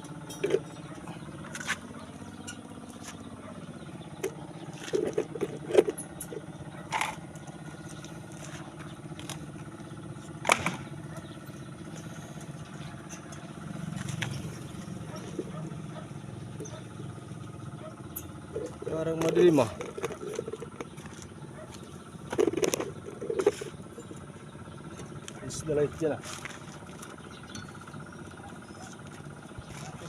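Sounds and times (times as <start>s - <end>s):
engine hum: 0.0s - 30.0s.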